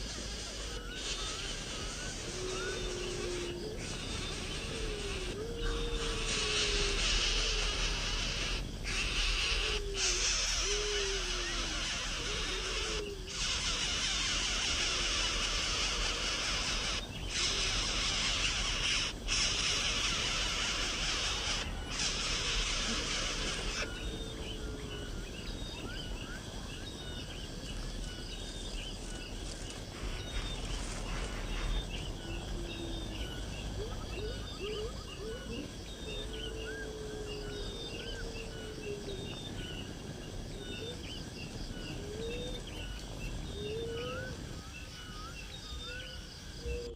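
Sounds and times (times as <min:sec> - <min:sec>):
dense high hiss: 0:00.0 - 0:46.9
rising whistled bird calls: 0:00.0 - 0:46.9.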